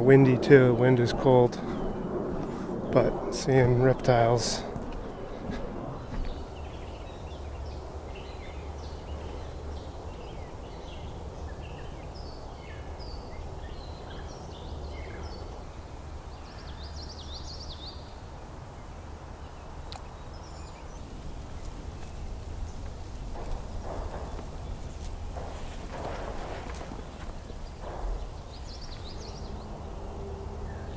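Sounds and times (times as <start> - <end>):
small birds singing: 0.0 - 4.4, 5.0 - 30.9
wind on microphone: 0.0 - 16.6, 17.9 - 30.9.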